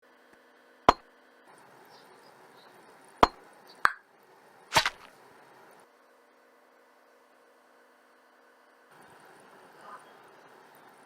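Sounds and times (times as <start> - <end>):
faint steady hum: 0.1 - 11.0.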